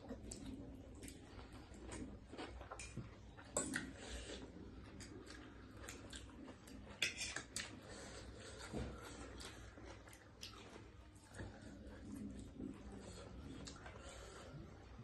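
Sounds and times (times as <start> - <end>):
chewing smacks: 0.0 - 14.0.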